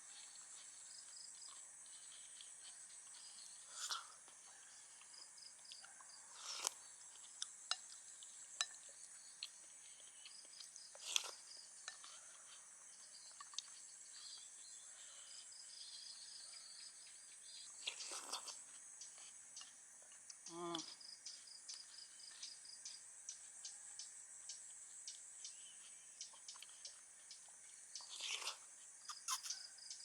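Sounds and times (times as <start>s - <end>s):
insects chirring: 0.1s - 30.0s.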